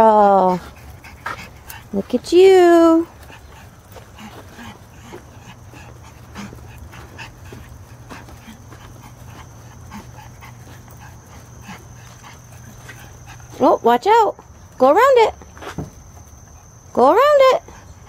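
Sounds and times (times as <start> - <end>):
puppy panting: 0.0 - 18.0
steady low hum: 0.0 - 18.0.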